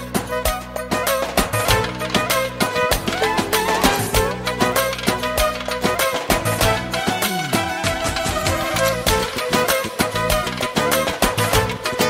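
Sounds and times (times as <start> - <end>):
ornamented lead melody: 0.0 - 12.0
syncopated drum beat: 0.2 - 12.0.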